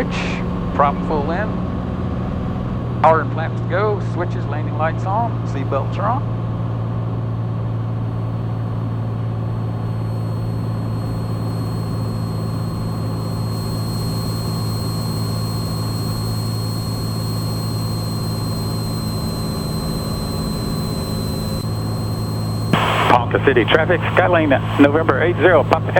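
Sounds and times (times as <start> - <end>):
faint high whine: 0.0 - 6.3, 7.7 - 25.9
propeller plane engine droning: 0.0 - 25.9.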